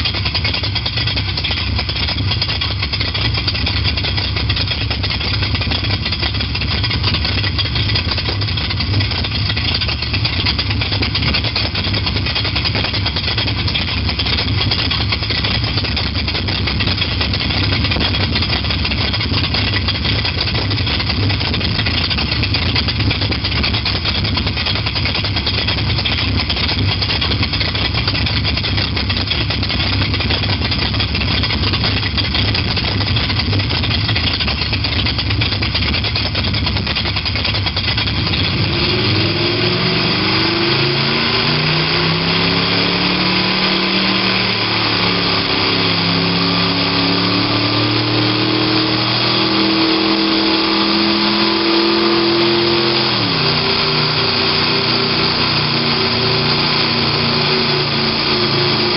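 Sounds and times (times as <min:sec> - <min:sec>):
simulated sports car engine: 0:00.0 - 0:58.9.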